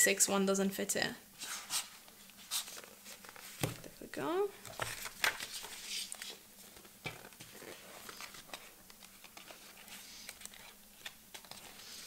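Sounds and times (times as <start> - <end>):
plastic cover rustling and sliding: 1.4 - 3.9, 4.6 - 12.0.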